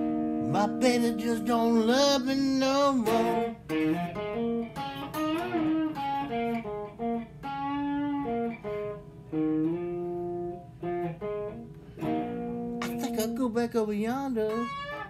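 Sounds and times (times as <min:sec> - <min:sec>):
electric guitar blues lead: 0:00.0 - 0:15.0.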